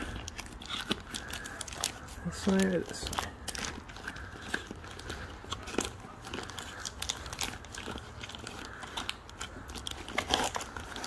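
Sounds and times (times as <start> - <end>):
cardboard and plastic crinkling: 0.0 - 11.0.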